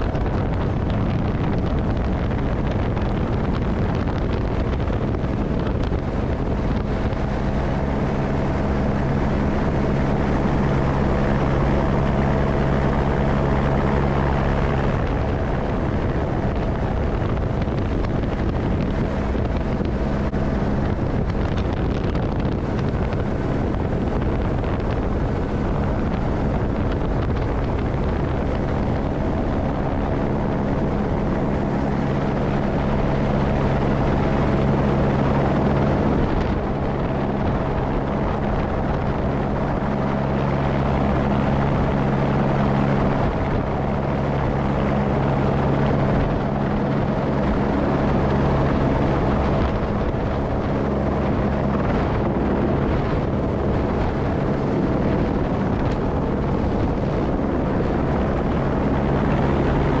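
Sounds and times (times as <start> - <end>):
helicopter turbine and rotor drone: 0.0 - 60.0.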